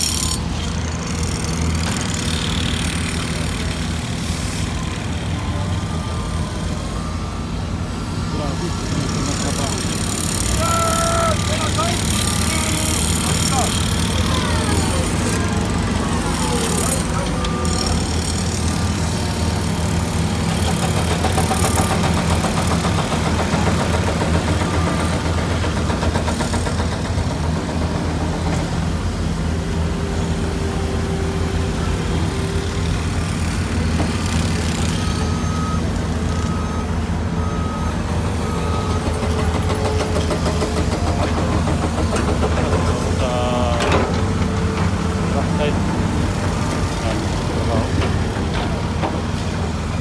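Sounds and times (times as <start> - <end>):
heavy machine engine droning: 0.0 - 50.0.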